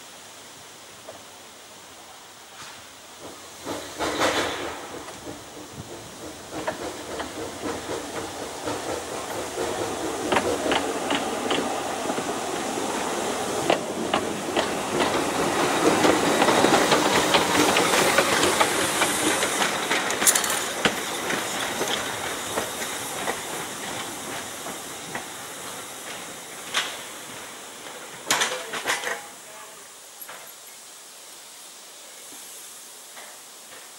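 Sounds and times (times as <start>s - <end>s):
steam hissing: 0.0s - 33.9s
train wheels clicking and knocking: 2.6s - 29.4s, 33.0s - 33.9s.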